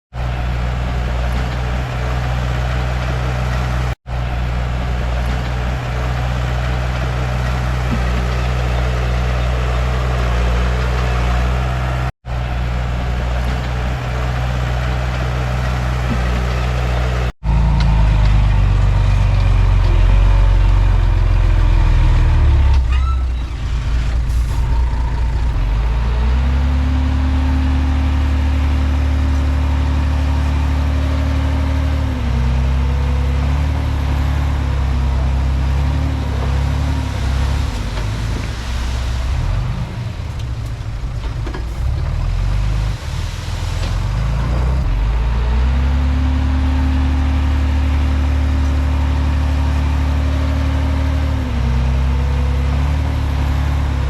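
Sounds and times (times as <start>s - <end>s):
bulldozer diesel engine running: 0.1s - 54.0s.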